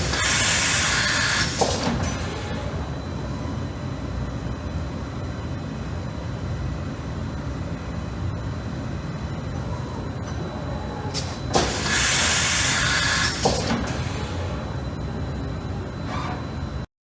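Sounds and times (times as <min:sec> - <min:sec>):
machine humming: 0:00.0 - 0:16.9.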